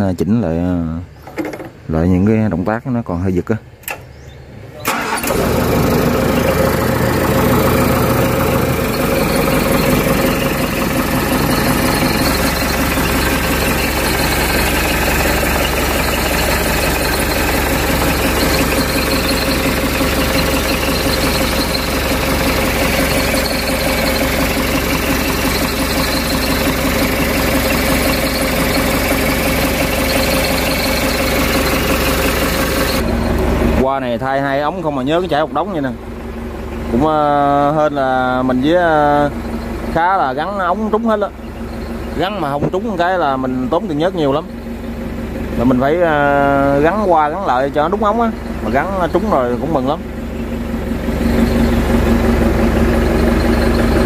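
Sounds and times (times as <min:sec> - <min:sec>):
diesel engine starting and running: 0:00.0 - 0:54.0.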